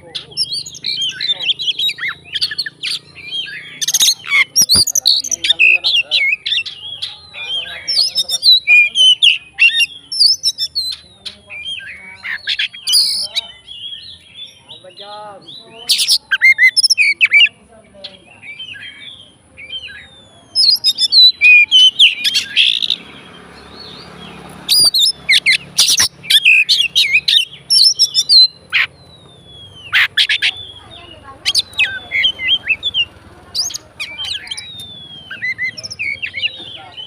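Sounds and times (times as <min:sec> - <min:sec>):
bird singing varied song: 0:00.0 - 0:37.0.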